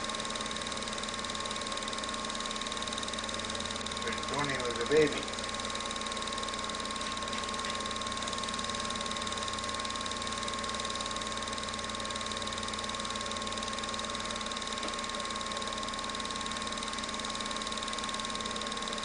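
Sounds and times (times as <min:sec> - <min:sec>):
film projector whirring: 0:00.0 - 0:19.0
projector hum: 0:00.0 - 0:19.0.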